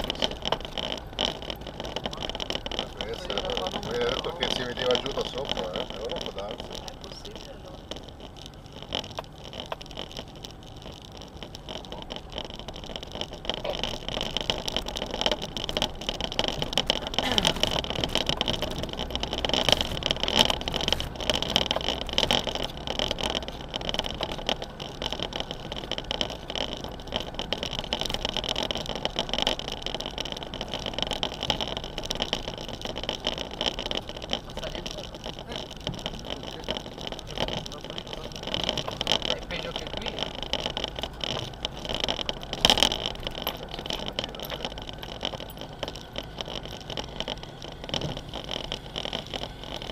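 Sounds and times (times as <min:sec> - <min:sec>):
knocks and crunches: 0:00.0 - 0:49.9
tyres on loose stones: 0:00.0 - 0:49.9
vehicle engine running: 0:00.0 - 0:49.9.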